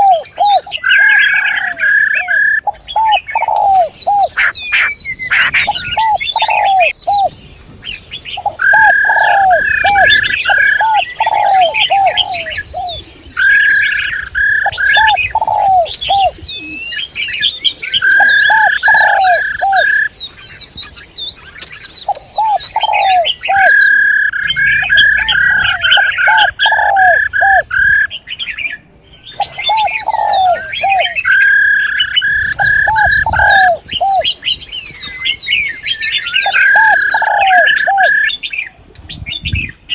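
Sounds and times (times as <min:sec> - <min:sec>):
high-pitched bird chirping: 0:00.0 - 0:07.3, 0:08.0 - 0:28.6, 0:29.2 - 0:38.5
birds calling: 0:00.0 - 0:39.9.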